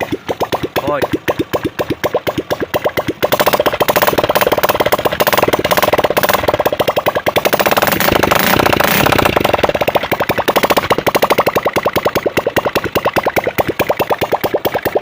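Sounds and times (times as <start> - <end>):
motorcycle engine popping exhaust: 0.0 - 15.0.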